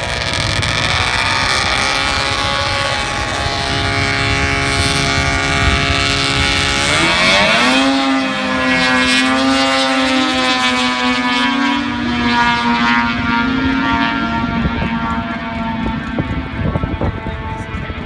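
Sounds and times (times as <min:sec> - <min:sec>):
kart engine at full throttle: 0:00.0 - 0:18.0.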